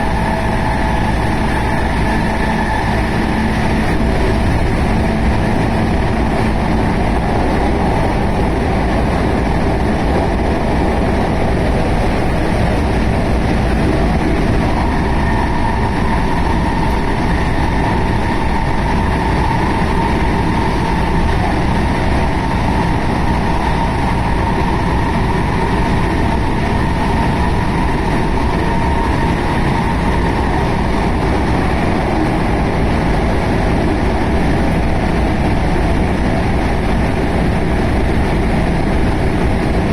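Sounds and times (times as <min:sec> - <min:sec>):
traction motor whine: 0:00.0 - 0:39.9
train wheels rumbling on rail: 0:00.0 - 0:39.9.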